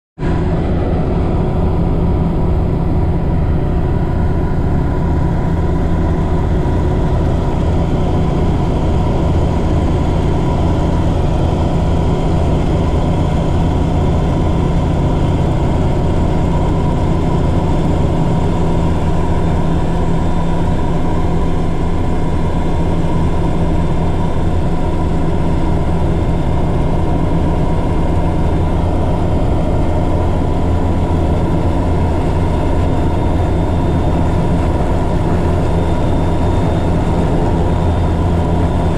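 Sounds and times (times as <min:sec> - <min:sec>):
helicopter turbine and rotor drone: 0:00.2 - 0:38.9.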